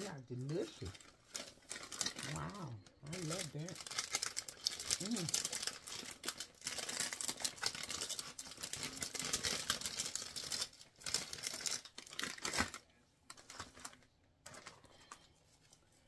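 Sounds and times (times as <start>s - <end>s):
plastic packaging crinkling: 0.0s - 15.3s.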